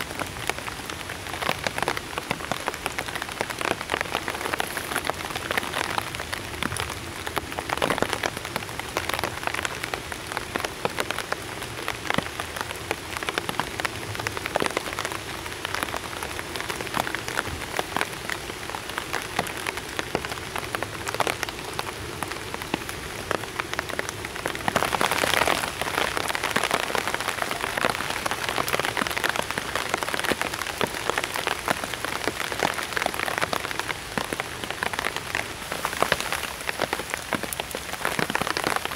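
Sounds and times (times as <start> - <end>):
rain tapping on foil: 0.1 - 38.9.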